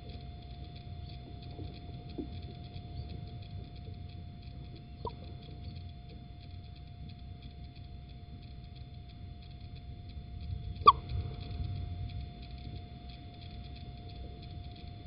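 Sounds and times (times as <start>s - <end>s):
electrical hum: 0.0s - 15.0s
faint ticks: 0.0s - 15.0s.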